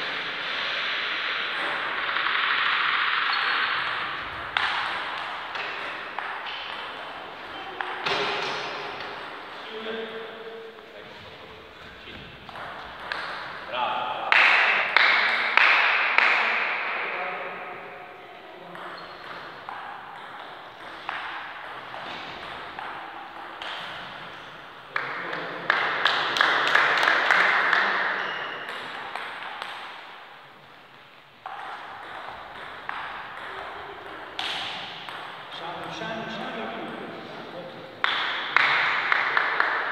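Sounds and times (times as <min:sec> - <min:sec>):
ping pong ball hitting paddles: 0:00.0 - 0:09.7, 0:12.1 - 0:17.8, 0:18.6 - 0:30.5, 0:31.4 - 0:37.2, 0:38.0 - 0:39.9.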